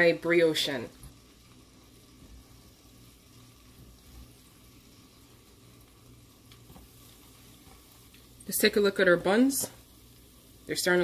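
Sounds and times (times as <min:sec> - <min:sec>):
grease sizzling in a skillet: 0:00.0 - 0:11.0.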